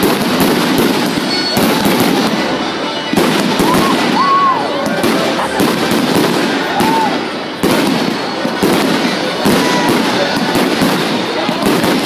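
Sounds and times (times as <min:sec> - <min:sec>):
fireworks crackling bangs: 0:00.0 - 0:12.0.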